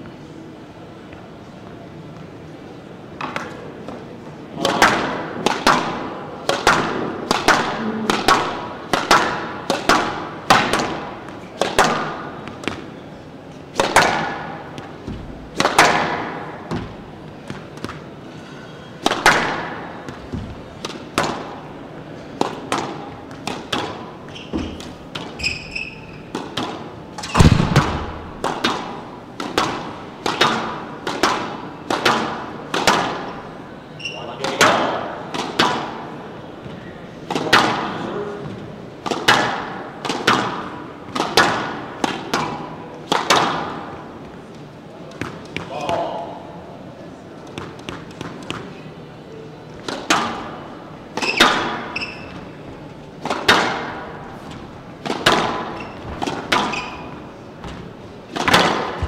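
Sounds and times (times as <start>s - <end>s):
squash ball hits echoing: 3.2s - 13.0s, 13.7s - 18.3s, 19.0s - 33.6s, 34.4s - 44.5s, 45.1s - 46.5s, 49.8s - 52.6s, 53.2s - 59.0s.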